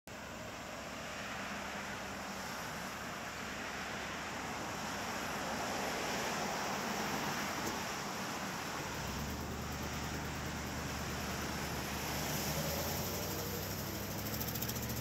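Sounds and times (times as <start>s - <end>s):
car approaching: 0.1s - 15.0s
faint low engine hum: 0.1s - 15.0s
road traffic noise: 0.1s - 15.0s.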